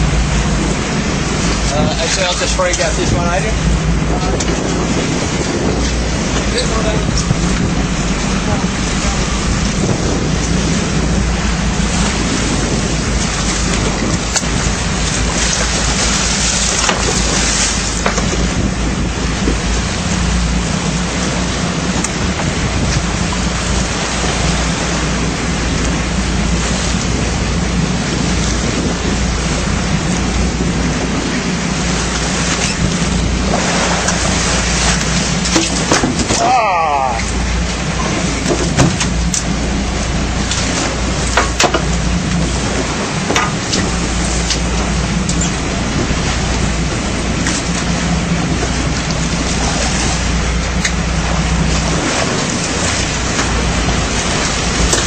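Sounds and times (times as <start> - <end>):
boat engine drone: 0.0 - 55.0
wind and water rushing along hull: 0.0 - 55.0.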